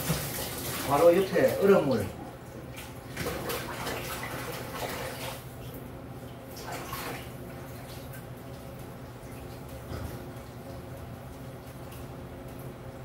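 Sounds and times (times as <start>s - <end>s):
water splashing in sink: 0.0s - 12.7s.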